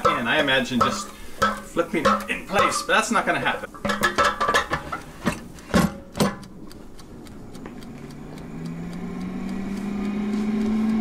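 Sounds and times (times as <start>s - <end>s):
fan motor humming: 0.0s - 11.0s
mechanical timer ticking: 0.0s - 11.0s.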